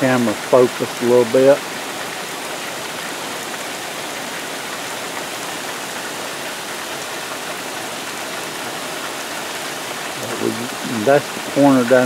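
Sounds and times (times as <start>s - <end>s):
hard rain on soil and grass: 0.0s - 12.0s.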